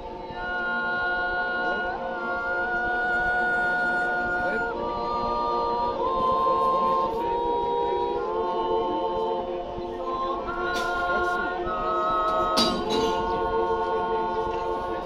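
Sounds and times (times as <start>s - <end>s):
choir yodeling a cappella: 0.0s - 15.0s.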